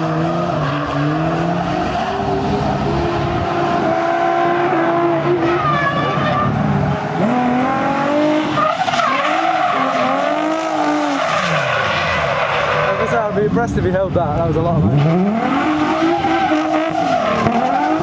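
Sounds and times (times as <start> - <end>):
car engine revving: 0.0 - 18.0
tyres skidding and squealing: 0.0 - 18.0.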